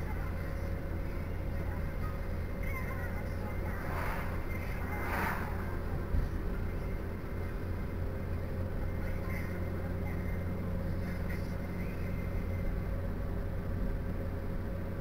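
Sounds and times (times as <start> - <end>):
car engine and tyre drone: 0.0 - 15.0.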